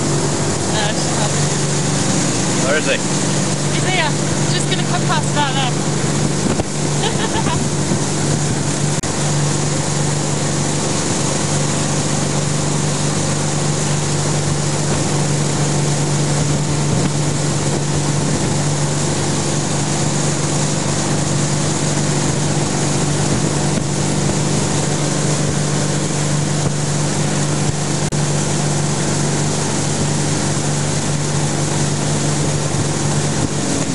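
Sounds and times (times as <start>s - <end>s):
boat engine running: 0.0s - 33.9s
rushing water: 0.0s - 33.9s.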